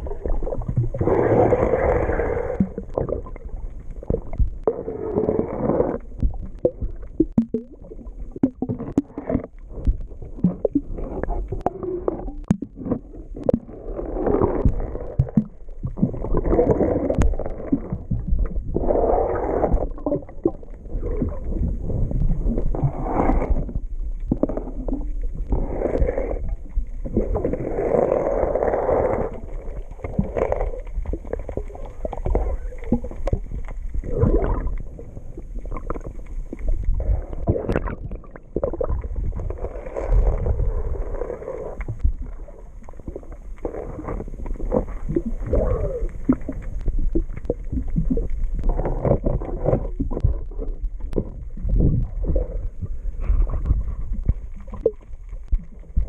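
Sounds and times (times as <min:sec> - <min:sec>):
water gurgling: 0:00.0 - 0:56.0.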